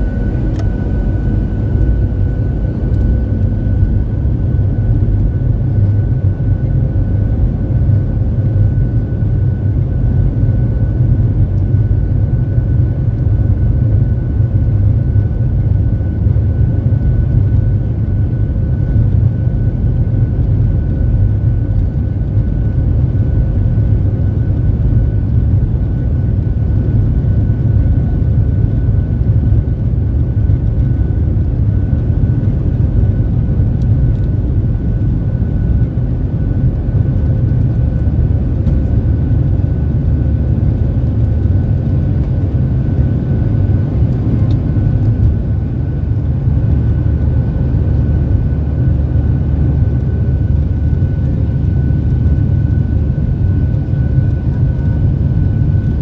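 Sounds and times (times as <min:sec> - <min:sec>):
jet engine roar and whine: 0:00.0 - 0:56.0.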